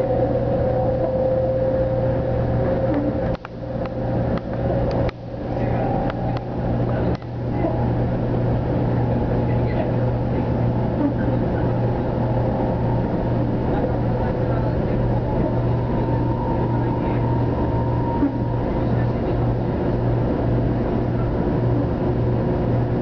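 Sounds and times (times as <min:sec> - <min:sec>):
train interior rumble and hiss: 0:00.0 - 0:23.0.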